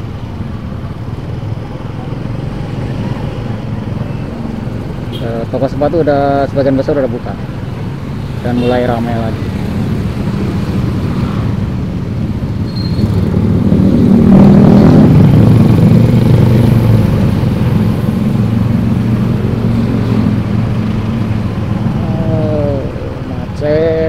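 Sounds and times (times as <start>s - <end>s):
motorcycle engine humming: 0.0s - 24.0s.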